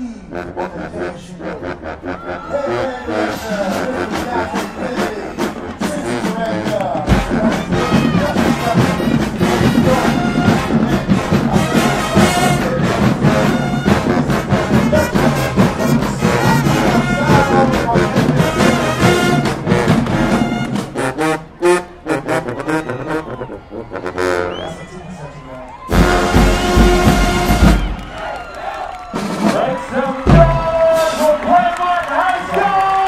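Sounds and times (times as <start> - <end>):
sousaphones: 0.0 - 27.7
marching band playing: 0.3 - 33.0.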